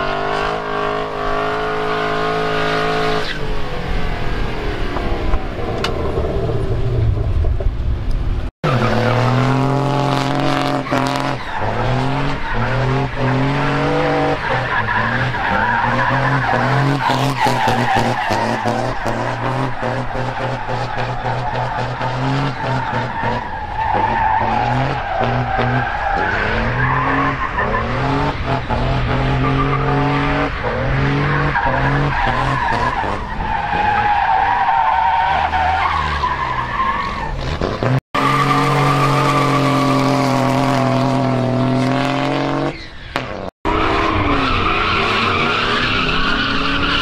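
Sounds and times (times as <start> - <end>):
tires squealing: 0.0 - 7.8, 8.6 - 47.0
car engines revving high: 0.0 - 47.0.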